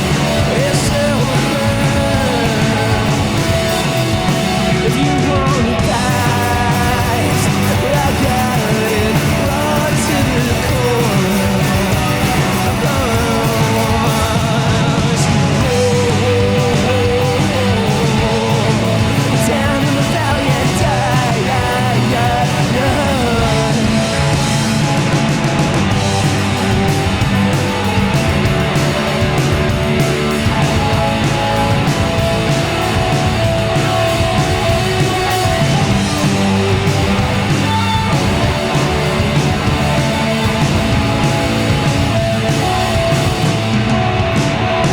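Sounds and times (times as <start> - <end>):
bending guitar lead line: 0.0 - 44.9
rock band playing live: 0.0 - 44.9.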